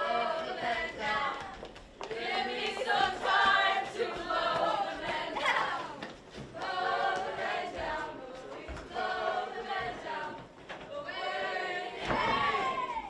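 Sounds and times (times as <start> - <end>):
young voices singing in chorus: 0.0 - 13.0.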